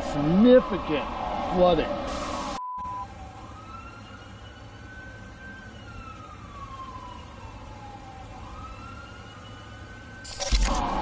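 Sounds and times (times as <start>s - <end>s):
warning siren wailing: 0.1s - 11.0s.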